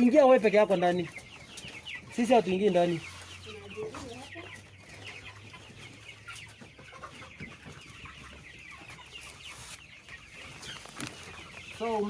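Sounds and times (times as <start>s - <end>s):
chickens cheeping and clucking: 0.0s - 12.0s.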